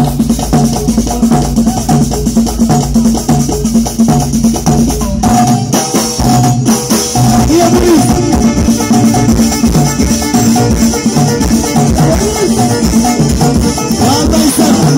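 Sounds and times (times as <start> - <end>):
percussion: 0.0 - 14.9
repeating bass line: 0.0 - 14.9.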